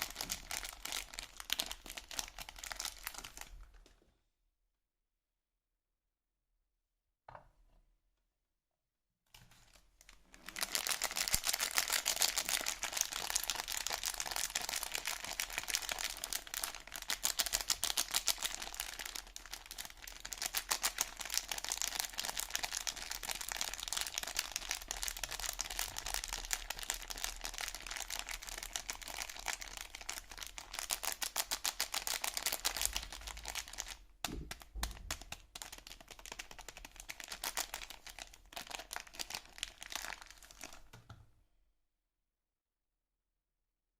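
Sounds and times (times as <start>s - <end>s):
packaging crinkling and rustling: 0.0s - 3.9s, 9.4s - 41.1s.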